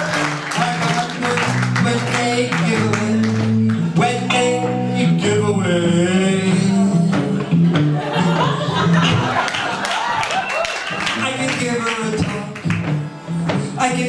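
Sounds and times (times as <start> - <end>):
man singing: 0.0 - 8.6, 11.0 - 14.0
acoustic guitars playing blues: 0.0 - 14.0.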